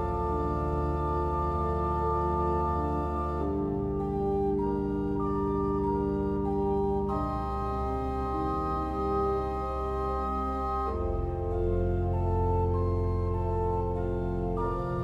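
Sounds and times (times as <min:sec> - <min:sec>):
slow organ chords: 0:00.0 - 0:15.0.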